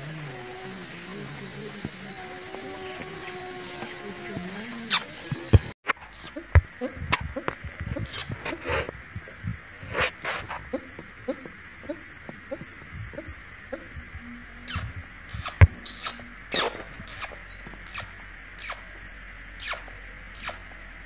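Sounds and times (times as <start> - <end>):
thin steady high tone: 0.0 - 21.0
young pigeons calling softly: 0.0 - 21.0.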